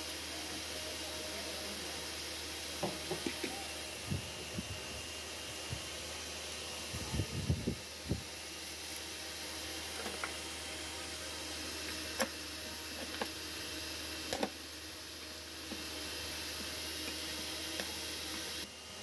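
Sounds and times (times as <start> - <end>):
steady hiss: 0.0 - 18.8.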